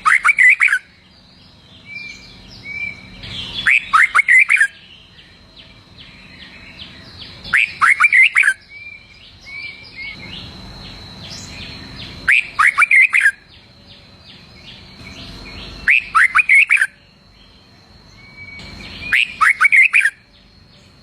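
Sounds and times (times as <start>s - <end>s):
bird singing whistled phrases: 0.0s - 21.0s
soft bird chirps: 0.0s - 21.0s.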